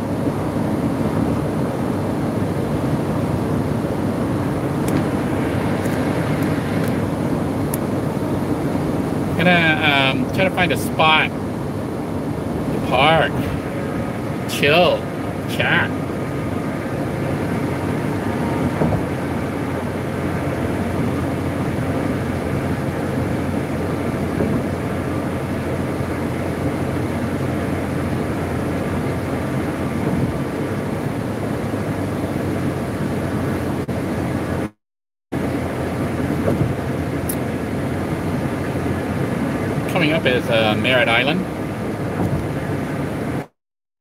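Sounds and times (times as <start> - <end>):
road and engine noise in a van: 0.0 - 43.6.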